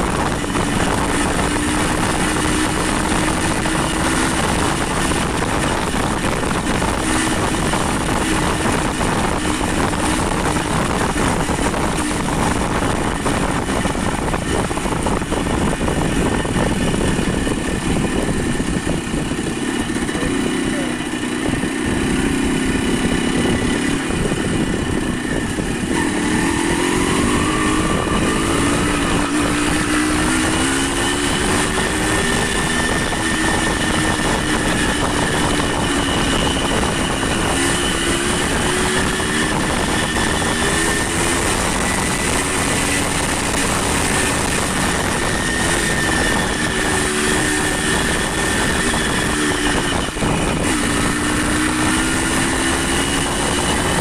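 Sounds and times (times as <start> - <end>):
vehicle engine running: 0.0 - 54.0
wind or road noise: 0.0 - 54.0.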